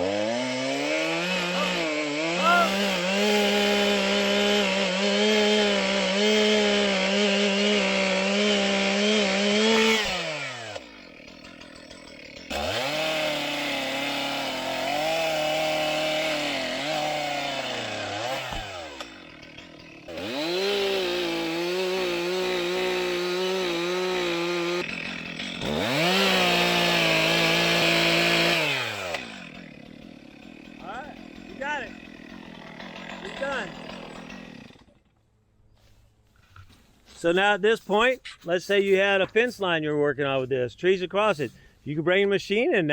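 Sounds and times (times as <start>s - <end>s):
chainsaw cutting wood: 0.0s - 35.2s.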